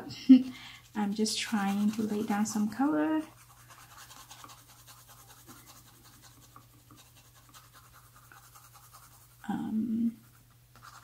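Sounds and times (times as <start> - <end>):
pencil scratching on paper: 0.9 - 9.5, 10.2 - 11.0.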